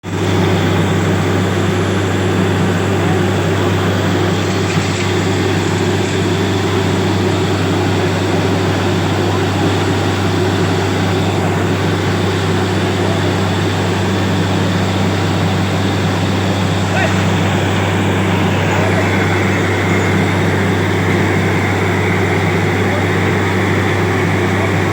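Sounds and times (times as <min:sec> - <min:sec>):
drilling machine running: 0:00.0 - 0:24.9.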